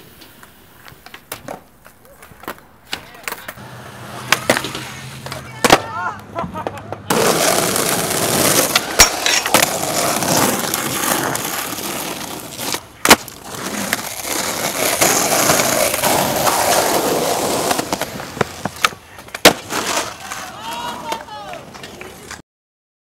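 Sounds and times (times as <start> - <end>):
skateboard wheels rolling on asphalt: 0.0 - 22.4
skateboard clacks: 0.1 - 22.4.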